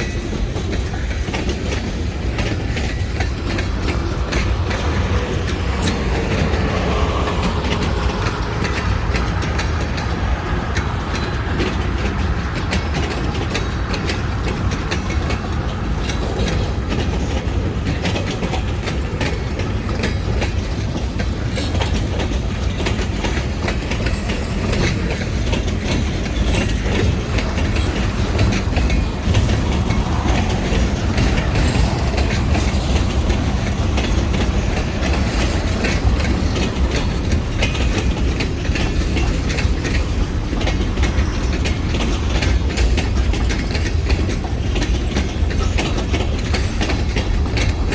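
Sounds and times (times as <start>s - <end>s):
low train rumble: 0.0s - 47.9s
train wheels clattering over rail joints: 0.0s - 47.9s.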